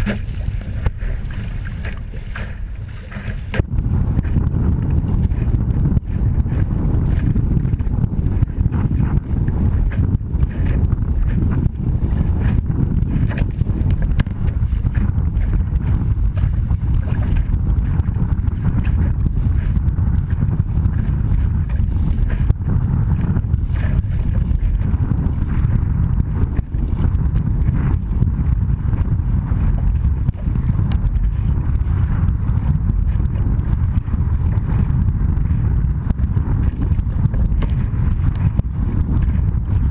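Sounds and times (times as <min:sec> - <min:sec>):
hull slapping waves: 0:00.0 - 0:39.9
water rushing past hull: 0:00.0 - 0:39.9
wind buffeting microphone: 0:00.0 - 0:39.9.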